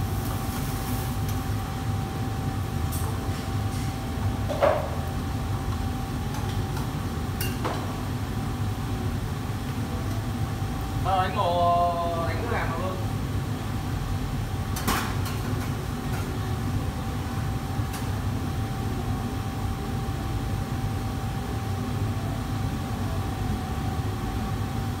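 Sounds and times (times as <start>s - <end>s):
kitchen range and hood roar: 0.0s - 25.0s.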